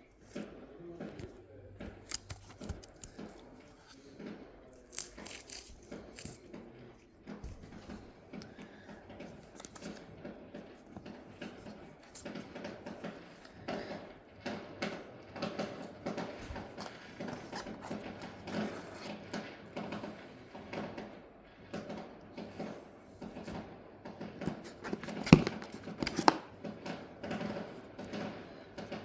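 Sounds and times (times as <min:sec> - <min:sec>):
packaging rustling and scraping: 0:00.0 - 0:14.2, 0:15.4 - 0:20.7, 0:22.6 - 0:29.0.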